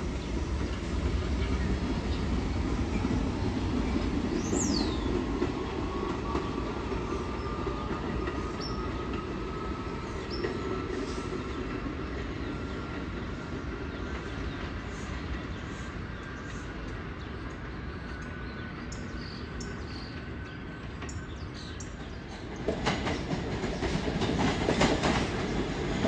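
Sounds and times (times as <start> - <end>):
subway train rumbling over rails: 0.0 - 26.0.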